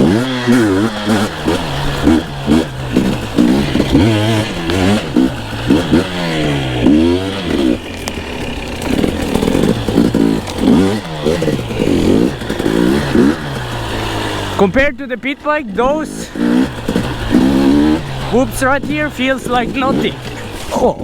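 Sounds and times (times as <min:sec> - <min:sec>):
bike clatter: 0:00.0 - 0:21.0
two-stroke dirt bike engine revving: 0:00.0 - 0:21.0.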